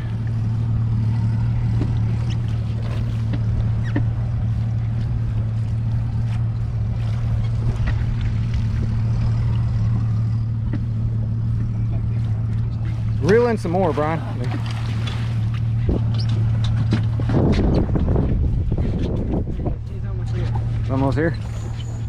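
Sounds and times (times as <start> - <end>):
boat motor idling: 0.0 - 22.0.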